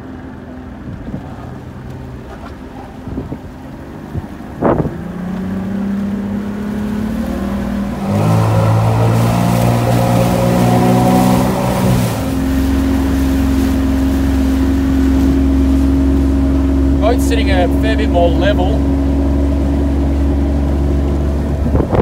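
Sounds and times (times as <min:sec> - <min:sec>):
outboard engine drone: 0:00.0 - 0:22.0.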